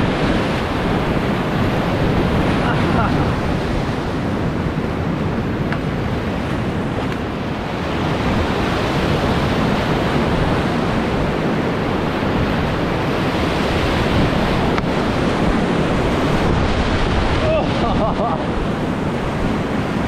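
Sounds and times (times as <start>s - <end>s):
whitewater rapids rushing: 0.0s - 5.4s, 6.7s - 20.0s.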